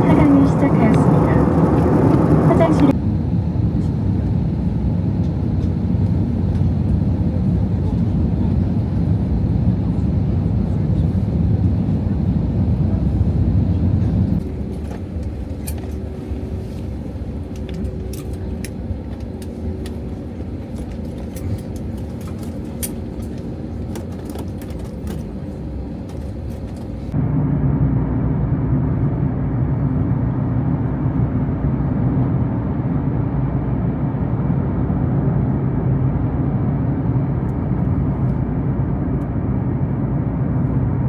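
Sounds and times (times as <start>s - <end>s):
vehicle low rumble: 0.0s - 41.0s.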